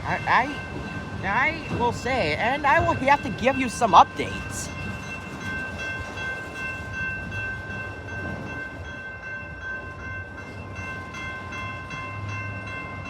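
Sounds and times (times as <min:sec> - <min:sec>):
crossing bell ringing: 0:00.0 - 0:13.0.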